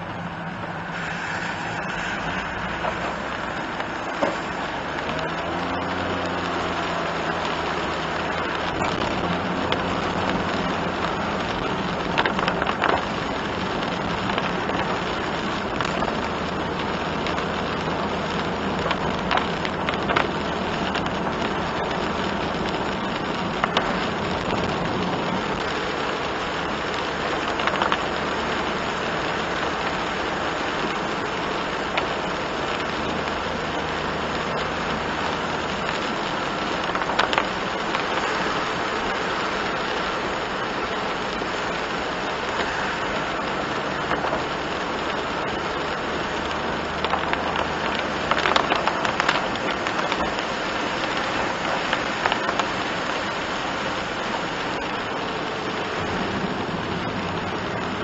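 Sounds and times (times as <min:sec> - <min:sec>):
low engine hum: 0:00.0 - 0:58.0
rain drumming on a vehicle: 0:00.1 - 0:58.0
tyre hiss on wet road: 0:00.2 - 0:58.0.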